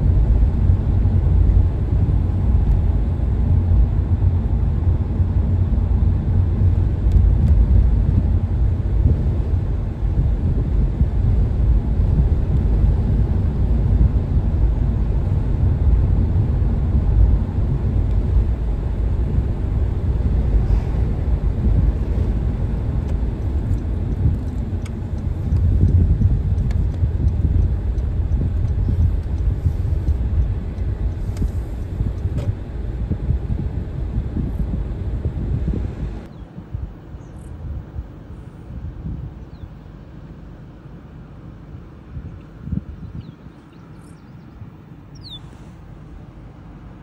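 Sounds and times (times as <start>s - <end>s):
car road and engine noise: 0.0s - 47.0s.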